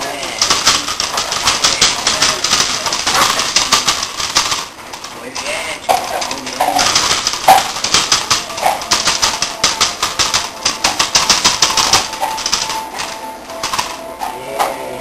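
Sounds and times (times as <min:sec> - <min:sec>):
puppy claws scratching on paper: 0:00.0 - 0:13.1.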